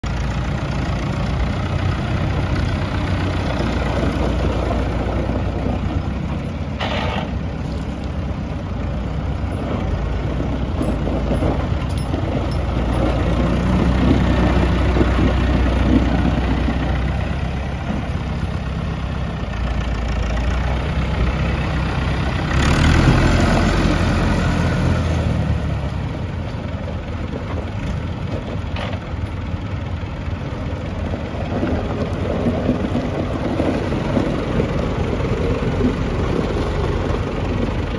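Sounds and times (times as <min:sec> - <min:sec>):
tractor engine passing: 0:00.0 - 0:37.9.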